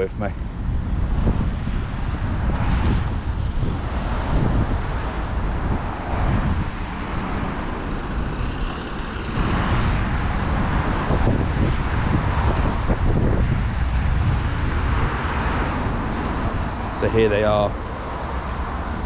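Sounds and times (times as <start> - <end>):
cars passing: 0.0 - 19.0
wind rumbling on microphone: 0.0 - 19.0.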